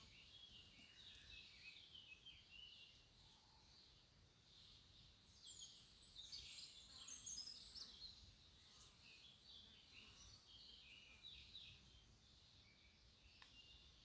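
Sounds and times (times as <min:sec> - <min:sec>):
faint bird chirps and twitters: 0:00.0 - 0:14.0.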